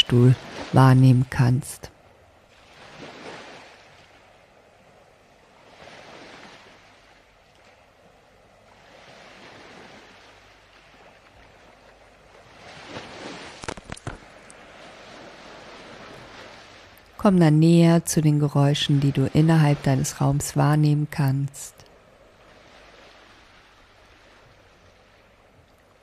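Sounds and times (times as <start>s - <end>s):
ocean surf washing: 0.0s - 26.0s.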